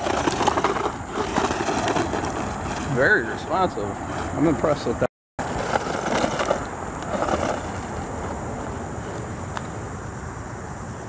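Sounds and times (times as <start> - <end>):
toy truck tyres crunching over stones: 0.0 - 9.9
crickets chirping: 0.0 - 11.0.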